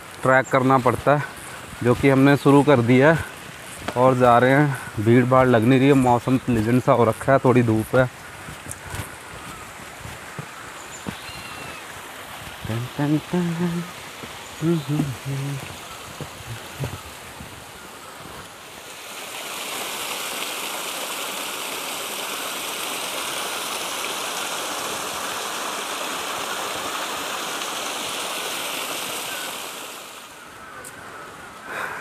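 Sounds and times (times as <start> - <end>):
stream rushing over rocks: 0.0 - 30.6.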